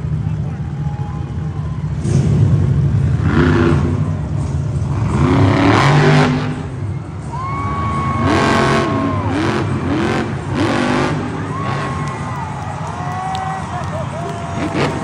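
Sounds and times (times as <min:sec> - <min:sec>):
truck engine revving hard: 0:01.8 - 0:15.0.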